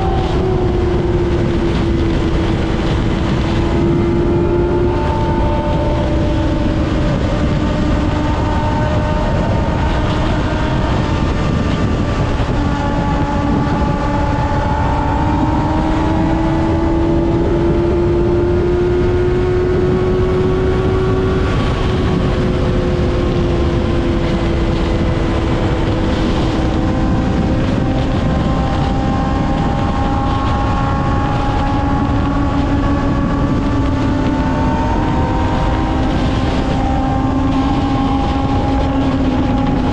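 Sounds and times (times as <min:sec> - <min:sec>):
motorcycle engine at high revs: 0:00.0 - 0:39.9
wind and road noise: 0:00.0 - 0:39.9.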